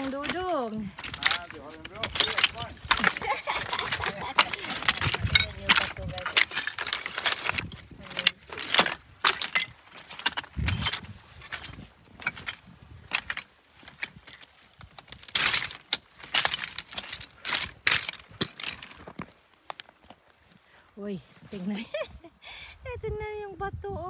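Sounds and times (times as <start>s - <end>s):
footsteps on loose slate stones: 0.0s - 20.6s.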